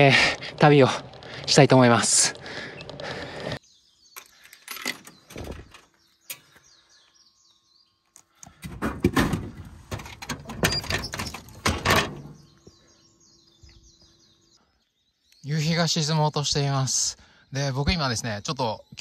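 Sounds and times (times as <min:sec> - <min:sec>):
small birds chirping: 0:00.0 - 0:08.6, 0:09.8 - 0:19.0.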